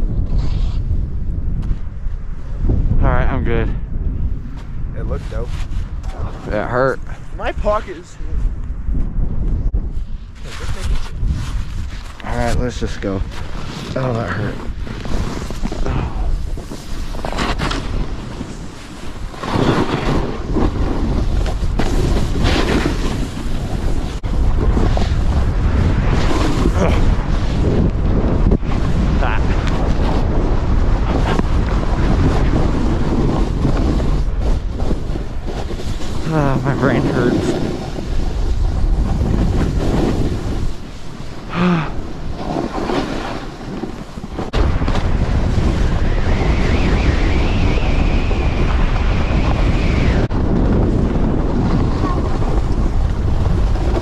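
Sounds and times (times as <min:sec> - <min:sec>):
snowboard scraping over snow: 0:00.0 - 0:02.8, 0:04.4 - 0:08.5, 0:09.4 - 0:54.0
wind rumble on microphone: 0:00.0 - 0:54.0.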